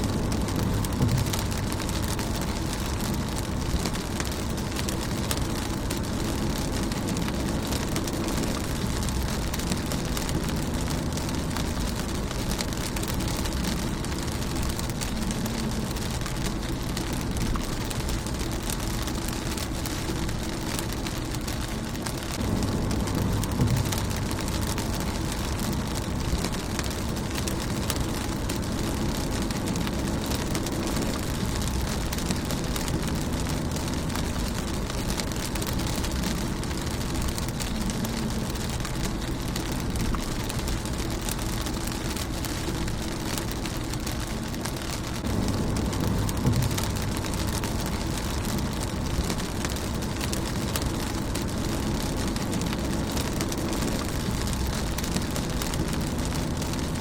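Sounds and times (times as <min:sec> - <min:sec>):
low rumble: 0:00.0 - 0:57.0
rain on a car windshield: 0:00.0 - 0:57.0.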